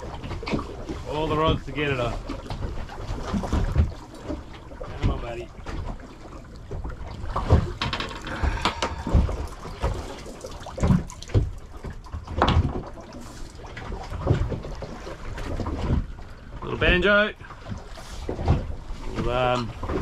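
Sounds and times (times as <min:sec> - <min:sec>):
low knocks and thumps: 0:00.0 - 0:20.0
water slapping boat hull: 0:00.0 - 0:20.0.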